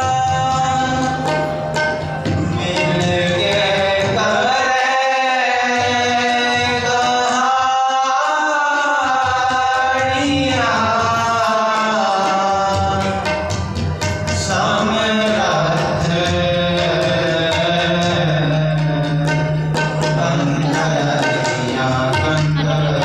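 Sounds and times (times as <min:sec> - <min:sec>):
harmoniums: 0:00.0 - 0:23.0
tabla strokes: 0:00.0 - 0:23.0.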